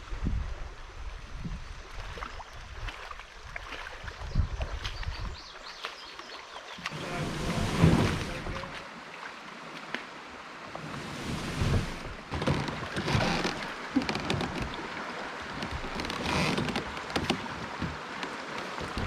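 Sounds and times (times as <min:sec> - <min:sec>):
river current rushing and splashing: 0:01.8 - 0:19.0.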